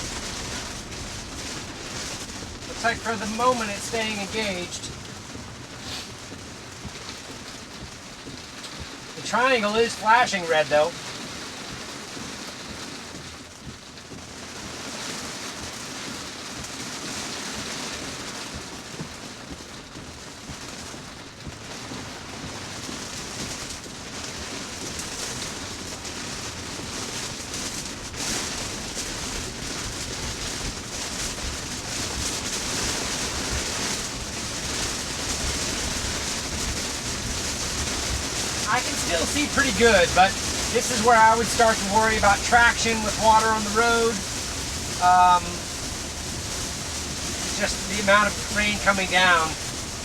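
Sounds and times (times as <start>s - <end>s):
heavy rain on car roof: 0.0s - 50.0s.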